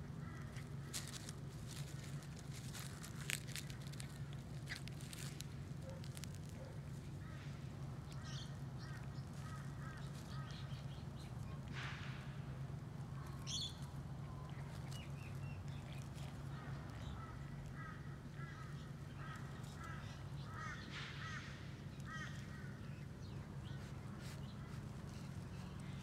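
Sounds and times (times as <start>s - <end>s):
birds chirping: 0.0s - 12.3s, 12.9s - 26.0s
steady low hum: 0.0s - 26.0s.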